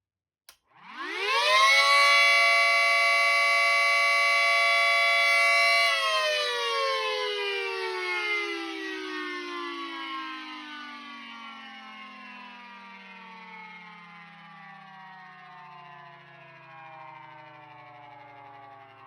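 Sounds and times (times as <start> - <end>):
two-tone siren: 0.6 - 19.0.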